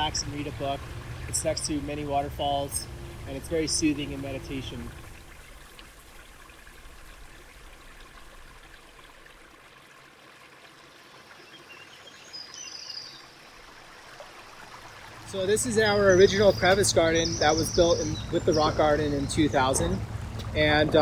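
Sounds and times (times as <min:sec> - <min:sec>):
rushing stream water: 0:00.0 - 0:21.0.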